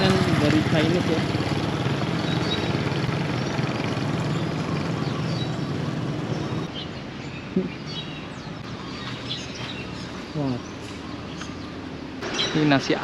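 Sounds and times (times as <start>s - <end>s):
birds chirping: 0.0s - 13.0s
street noise: 0.0s - 13.0s
vehicle engine drone: 0.0s - 13.0s.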